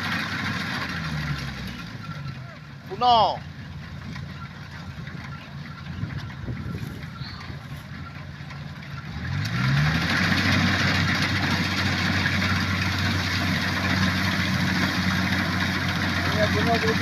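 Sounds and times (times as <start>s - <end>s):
combine harvester engine revving: 0.0s - 17.0s
rushing machinery noise: 0.0s - 17.0s.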